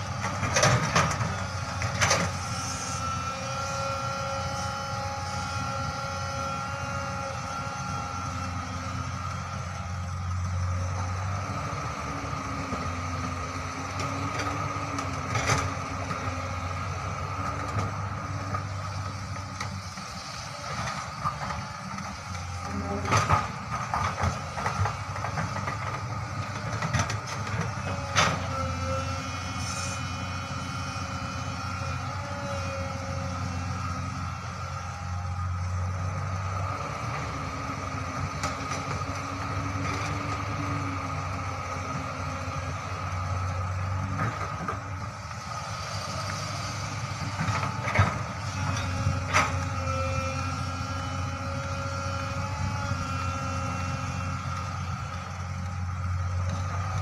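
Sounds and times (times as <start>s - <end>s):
excavator diesel engine whining: 0.0s - 57.0s.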